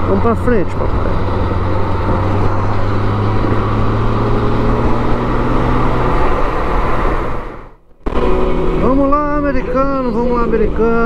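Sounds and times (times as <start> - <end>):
motorcycle engine hum: 0.0 - 11.0
wind and road noise: 0.0 - 11.0.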